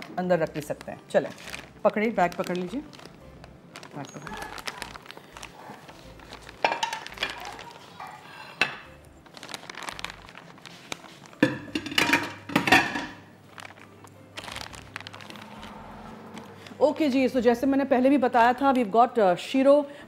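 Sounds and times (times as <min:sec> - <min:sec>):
plastic bag crinkling: 0:00.0 - 0:17.3.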